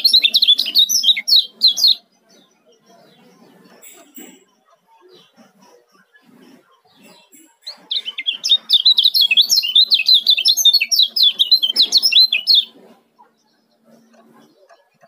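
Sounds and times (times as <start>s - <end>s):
bird chirping rapidly: 0.0s - 4.4s, 6.1s - 15.0s.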